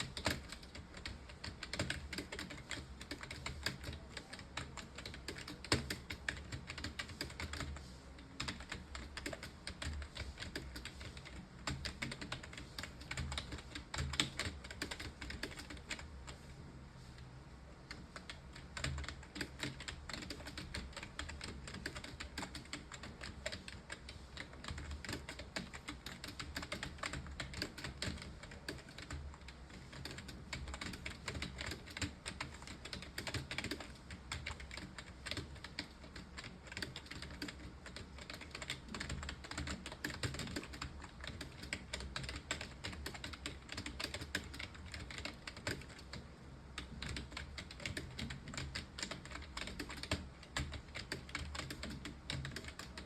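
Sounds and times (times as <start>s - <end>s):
fast typing on keyboard: 0.0s - 16.4s, 17.9s - 53.0s.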